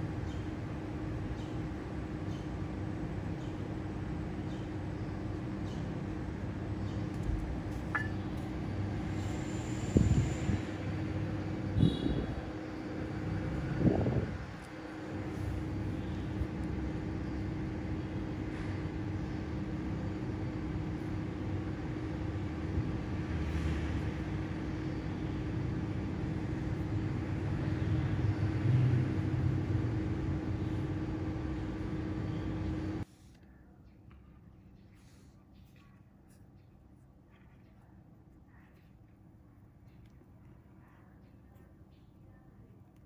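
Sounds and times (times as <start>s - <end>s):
low rumble with constant hum: 0.0s - 43.0s.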